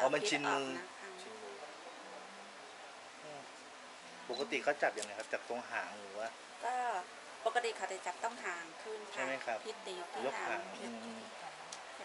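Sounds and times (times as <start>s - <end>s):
faint voices murmuring: 0.0s - 6.7s, 8.4s - 12.0s
steady hiss: 0.0s - 12.0s.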